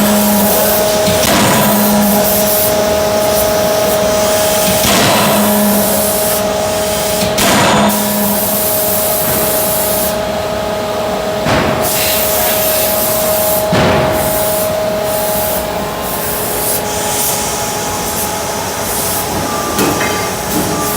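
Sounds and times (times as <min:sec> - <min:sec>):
hydraulic hiss and hum: 0:00.0 - 0:20.9.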